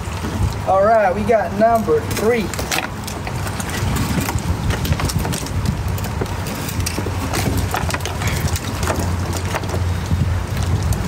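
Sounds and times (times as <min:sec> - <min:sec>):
wind rumble on microphone: 0:00.0 - 0:11.0
gear knocking and clicking: 0:01.6 - 0:11.0.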